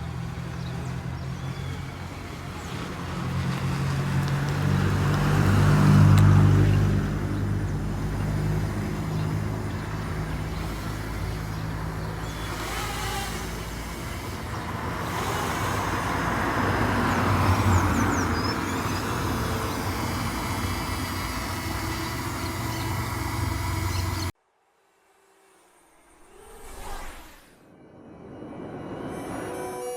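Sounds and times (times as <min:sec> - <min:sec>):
road traffic with engine hum: 0:00.0 - 0:24.4.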